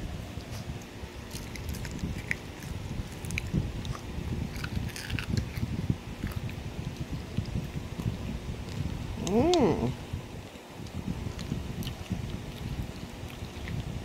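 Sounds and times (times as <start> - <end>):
dull low rumble: 0.0 - 14.0
chewing and crunching food: 0.4 - 9.6, 10.4 - 14.0.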